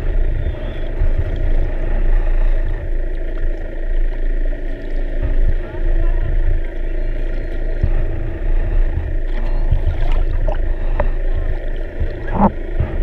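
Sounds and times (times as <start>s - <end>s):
underwater rumble and hum: 0.0s - 13.0s.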